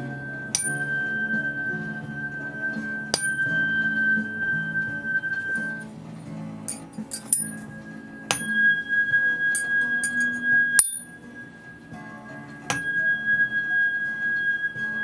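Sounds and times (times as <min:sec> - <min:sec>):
high pure ringing tone: 0:00.0 - 0:05.9, 0:06.7 - 0:15.0
tuning fork struck: 0:00.0 - 0:05.9, 0:06.7 - 0:15.0.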